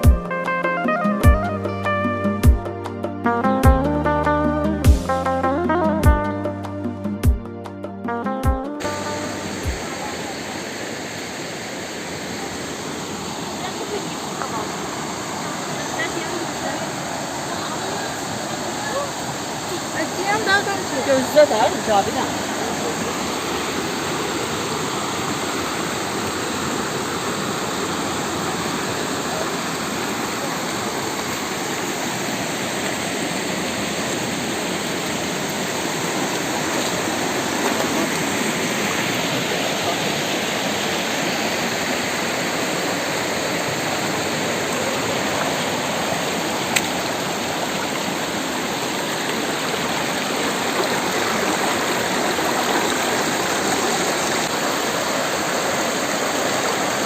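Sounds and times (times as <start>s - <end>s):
rushing stream water: 0.0s - 57.0s.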